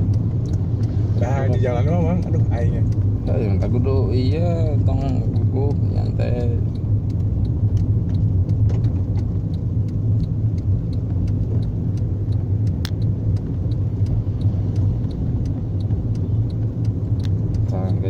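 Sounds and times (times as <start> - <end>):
car engine humming: 0.0 - 18.0.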